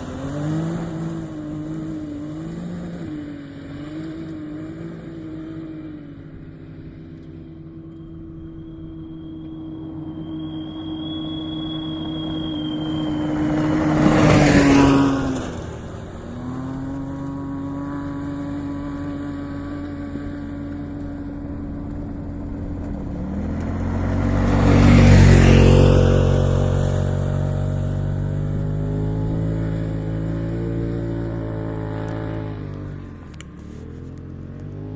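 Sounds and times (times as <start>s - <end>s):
off-road vehicle engines passing: 0.0s - 34.9s
steady engine drone: 0.0s - 34.9s.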